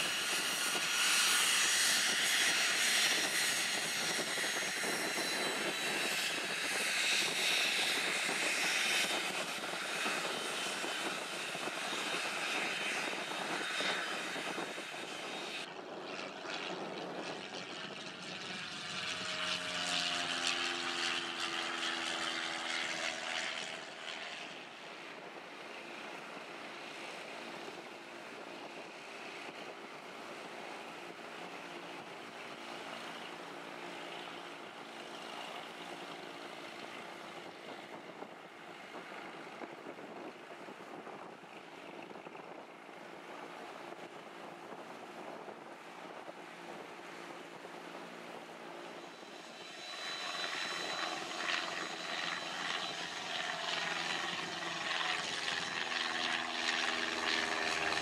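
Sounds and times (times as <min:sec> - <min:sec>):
jet engines whining and hissing: 0:00.0 - 0:58.0
propeller engine running at low power: 0:00.0 - 0:58.0
propeller plane passing overhead: 0:00.0 - 0:58.0.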